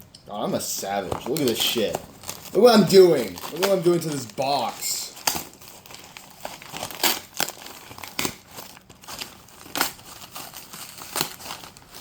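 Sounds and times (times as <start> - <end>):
cardboard rustling: 0.8 - 12.0.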